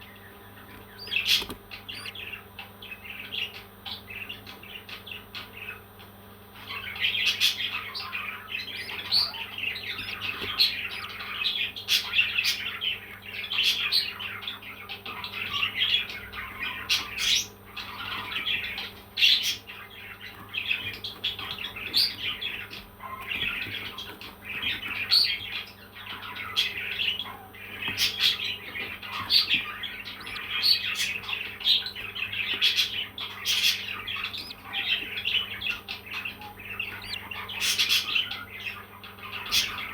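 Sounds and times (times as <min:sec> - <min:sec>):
parrots chirping: 0:00.0 - 0:05.2, 0:06.6 - 0:39.9.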